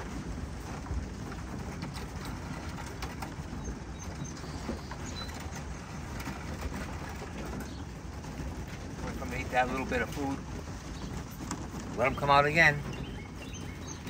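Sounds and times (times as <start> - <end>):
pigeons shuffling: 0.0 - 14.0.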